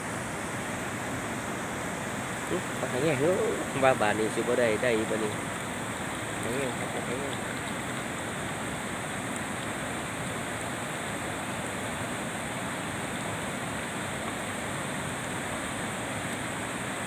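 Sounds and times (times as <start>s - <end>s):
constant high hiss: 0.0s - 17.0s
flowing water rushing: 0.0s - 17.0s.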